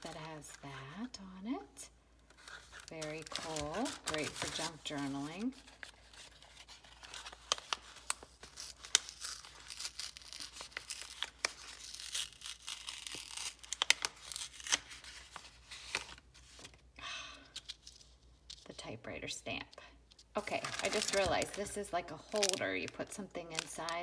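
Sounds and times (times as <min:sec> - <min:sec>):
plastic packaging crinkling: 0:00.0 - 0:01.0, 0:02.2 - 0:16.8, 0:20.4 - 0:24.0.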